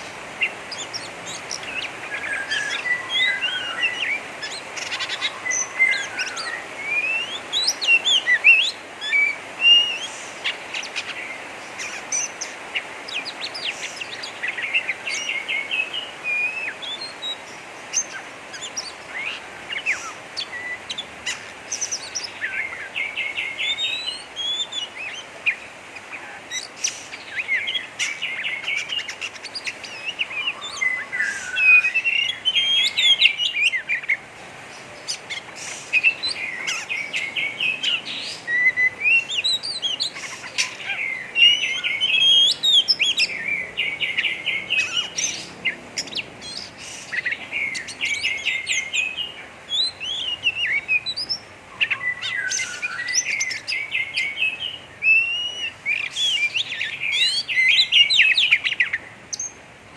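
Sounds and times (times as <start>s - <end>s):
bird singing chattering song: 0.0s - 59.6s
background hiss: 0.0s - 59.9s.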